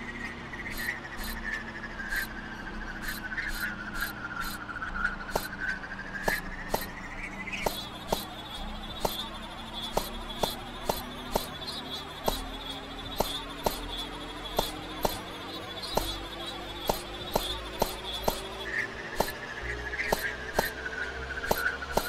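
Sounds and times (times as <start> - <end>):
sharp electronic clicks: 0.6 - 2.3, 3.0 - 22.0.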